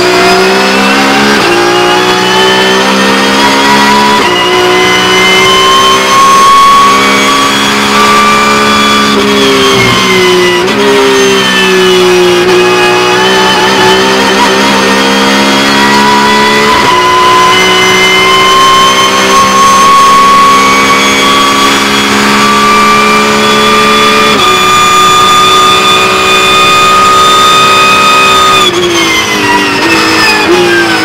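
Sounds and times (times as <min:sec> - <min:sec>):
race car engine at full throttle: 0:00.0 - 0:31.0.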